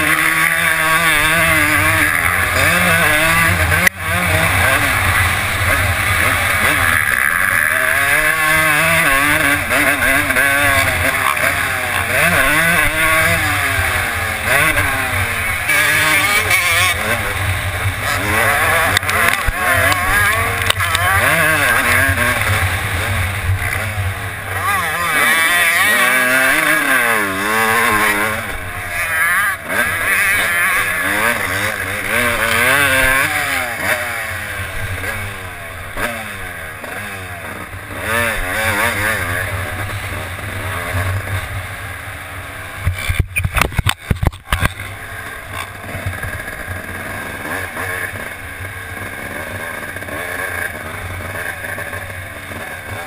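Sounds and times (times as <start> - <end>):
motorcycle engine revving hard: 0.0 - 53.0.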